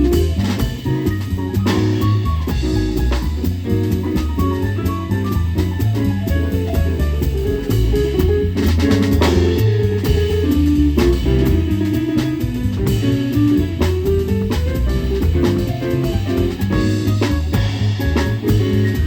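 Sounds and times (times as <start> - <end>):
jazz quartet playing: 0.0 - 19.0.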